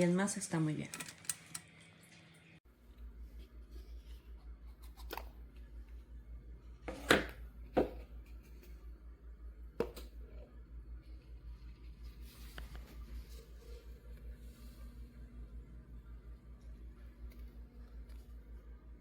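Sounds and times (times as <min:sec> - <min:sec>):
low pulsing hum: 0:02.6 - 0:19.0.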